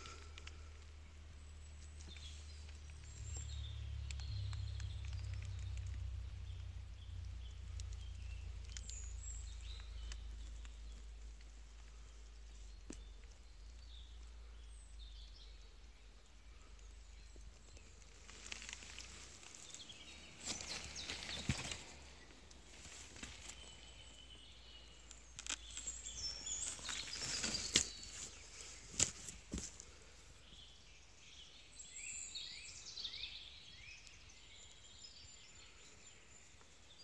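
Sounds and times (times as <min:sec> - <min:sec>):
low rumble on microphone: 0:00.0 - 0:30.6
rustling and crackling on stony ground: 0:00.0 - 0:31.0.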